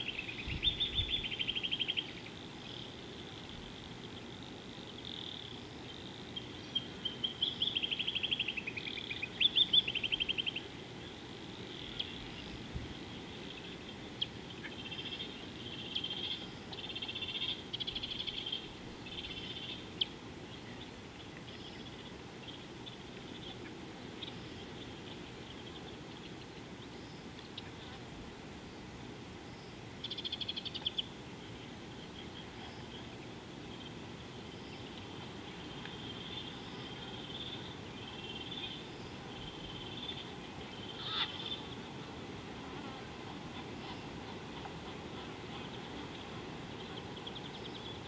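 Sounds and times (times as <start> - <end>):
steady low hiss: 0.0 - 48.0.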